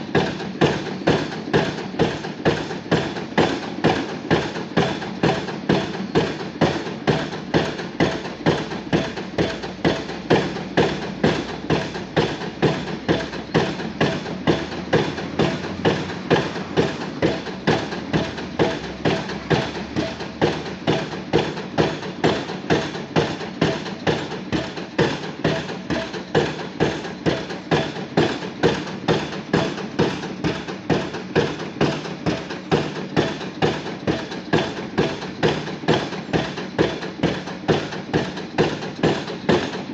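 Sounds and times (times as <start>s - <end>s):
pile driver hammer blows: 0.0s - 39.9s.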